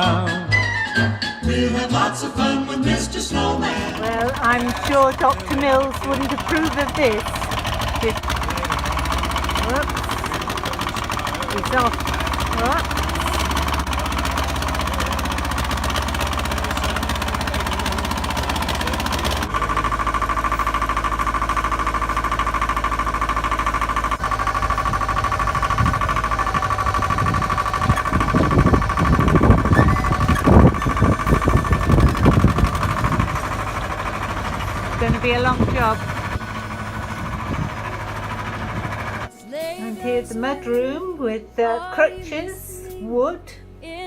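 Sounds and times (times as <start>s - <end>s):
engine running steadily: 3.2s - 44.0s
loud thumps and rumbles: 3.8s - 39.3s.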